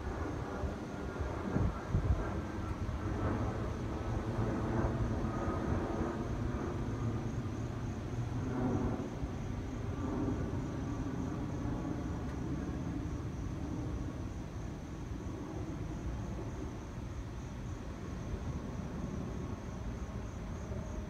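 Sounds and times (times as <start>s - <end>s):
jet airliner engine rumble: 0.0s - 21.0s.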